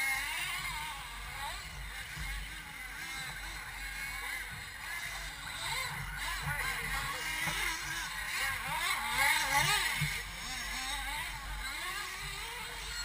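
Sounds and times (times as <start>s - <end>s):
rc car engines racing: 0.0s - 13.0s.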